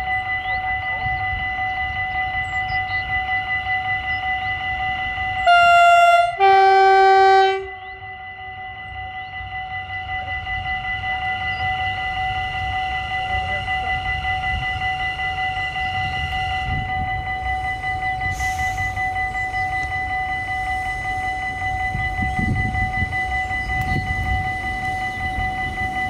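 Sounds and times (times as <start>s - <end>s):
electric train rumbling over bridge: 0.0s - 26.0s.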